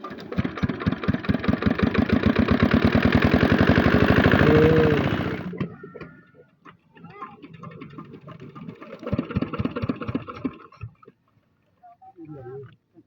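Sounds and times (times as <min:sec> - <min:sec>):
water pump engine turning over: 0:00.0 - 0:06.8, 0:07.4 - 0:11.1.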